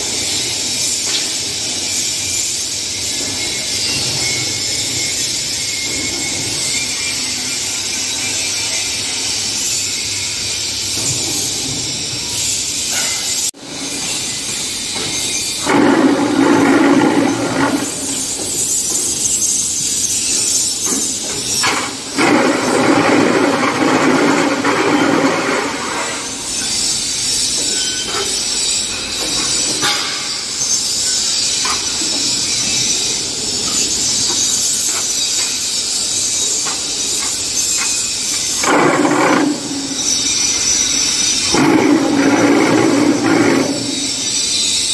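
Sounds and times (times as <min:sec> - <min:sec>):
machine mechanical din with hiss: 0:00.1 - 0:44.9.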